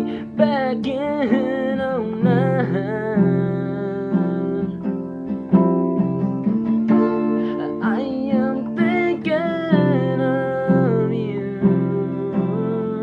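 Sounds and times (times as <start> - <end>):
man singing: 0.0 - 5.2, 7.4 - 13.0
acoustic guitar strumming: 0.0 - 13.0.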